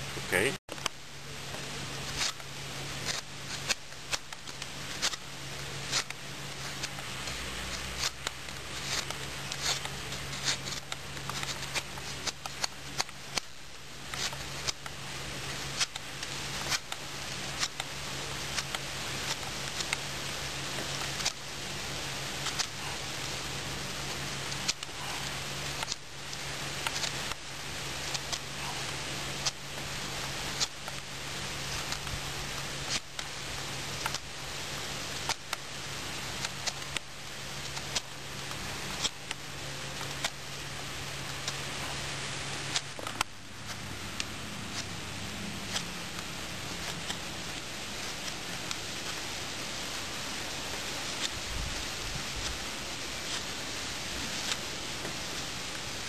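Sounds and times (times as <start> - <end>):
steady hiss: 0.0 - 56.0
knife cutting wood: 2.0 - 34.3, 34.9 - 56.0.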